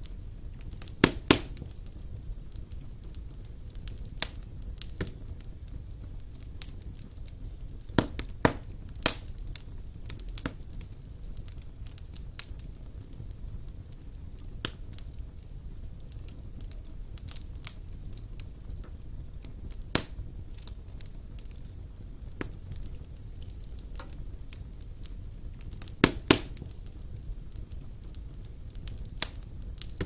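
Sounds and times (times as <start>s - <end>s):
burning logs popping and crackling: 0.0s - 30.0s
flames rumbling and hissing: 0.0s - 30.0s.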